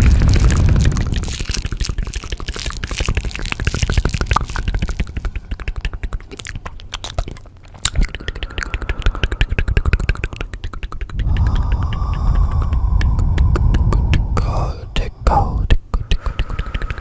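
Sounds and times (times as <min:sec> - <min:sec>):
low rumbling hum: 0:00.0 - 0:07.8, 0:08.8 - 0:16.7
crisp clicks and crackles: 0:00.0 - 0:17.0.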